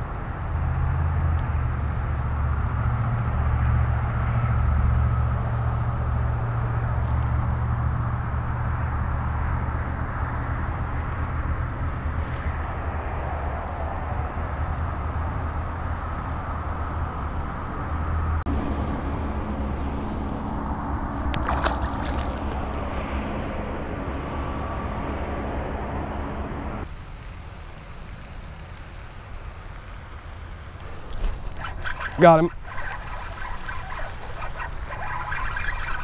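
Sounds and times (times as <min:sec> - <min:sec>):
low rumble and rustling: 0:00.0 - 0:36.0.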